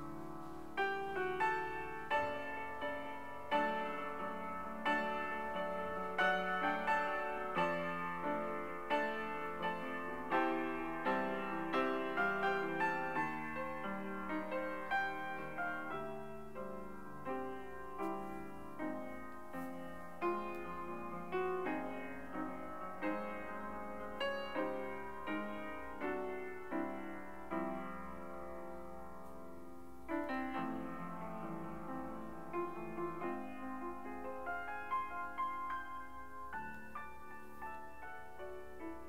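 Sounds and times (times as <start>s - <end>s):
piano notes and chords: 0.0s - 39.0s.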